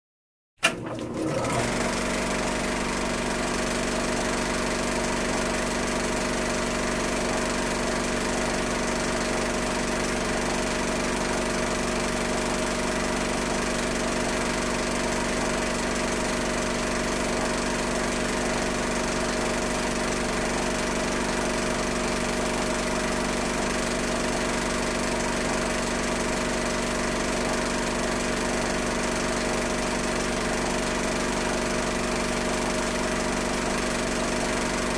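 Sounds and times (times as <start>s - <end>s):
film projector whirring: 0.6s - 34.9s.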